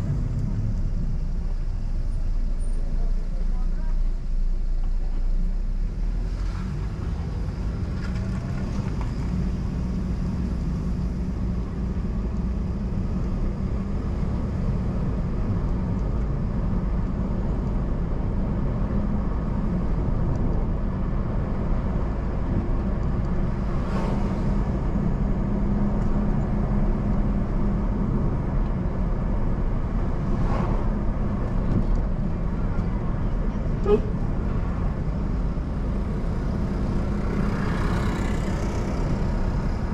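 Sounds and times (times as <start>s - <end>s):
car driving road noise: 0.0s - 39.9s.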